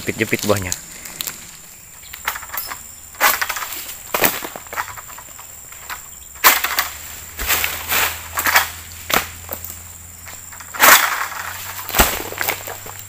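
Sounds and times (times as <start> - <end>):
footsteps on dry leaves: 0.0 - 13.0.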